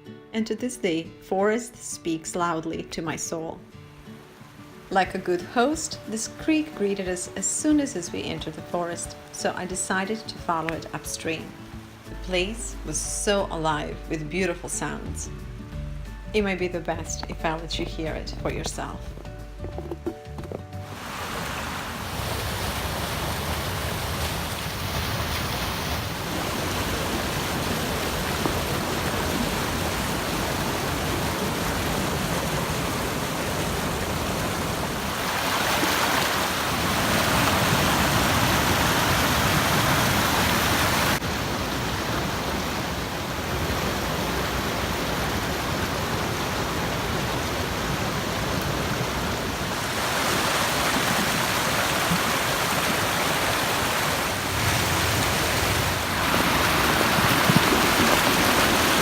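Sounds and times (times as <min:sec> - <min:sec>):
creek water flowing: 0:03.9 - 0:59.0.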